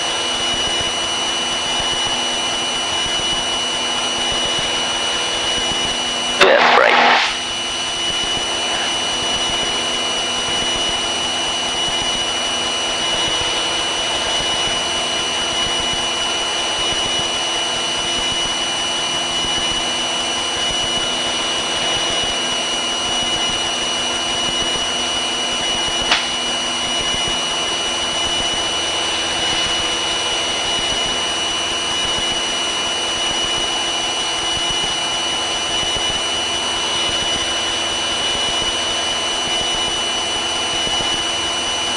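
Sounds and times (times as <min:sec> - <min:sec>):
aircraft engine drone in cabin: 0:00.0 - 0:41.9.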